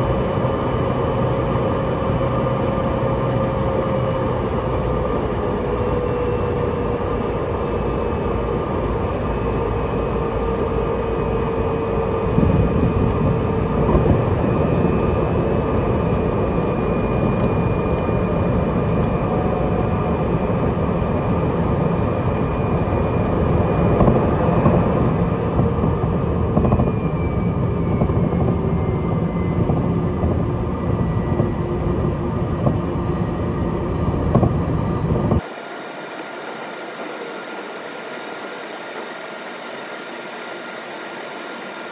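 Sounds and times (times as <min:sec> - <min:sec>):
wheels rumbling on runway: 0:00.0 - 0:35.5
turboprop engine drone: 0:00.0 - 0:41.9.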